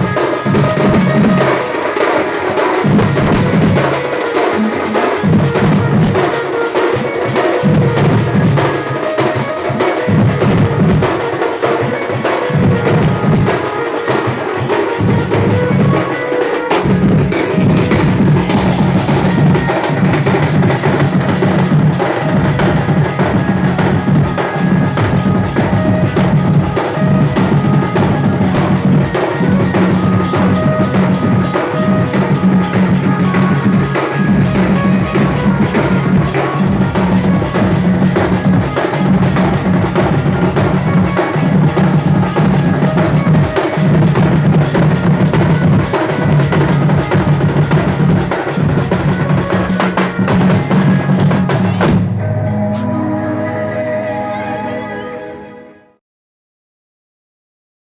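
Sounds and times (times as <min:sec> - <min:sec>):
fast dense drumming: 0:00.0 - 0:52.2
melodic line over drums: 0:00.0 - 0:55.8.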